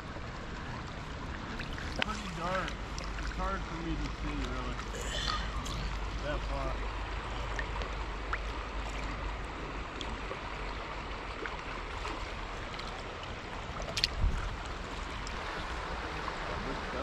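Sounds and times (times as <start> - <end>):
river current flowing: 0.0 - 17.0.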